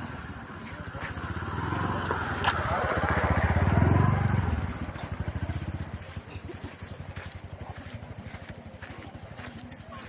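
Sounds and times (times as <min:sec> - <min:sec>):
small engine throbbing: 0:00.0 - 0:09.4.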